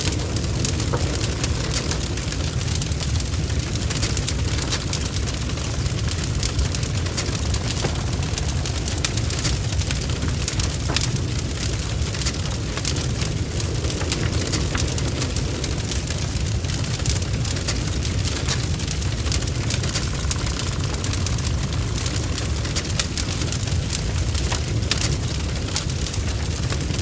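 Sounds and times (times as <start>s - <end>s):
fire crackling and spitting: 0.0s - 27.0s
fire rumbling: 0.0s - 27.0s.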